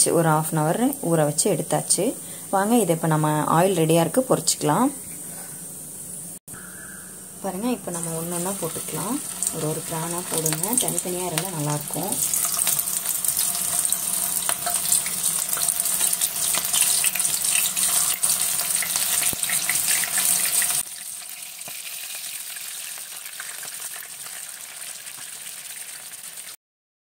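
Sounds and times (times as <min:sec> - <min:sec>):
hot oil sizzling and crackling: 0:00.1 - 0:26.6.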